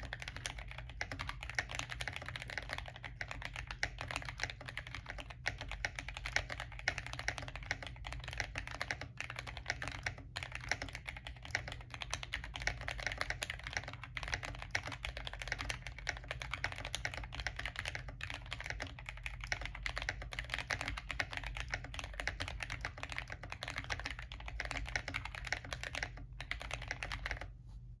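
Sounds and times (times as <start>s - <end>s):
keyboard typing: 0.0s - 27.6s.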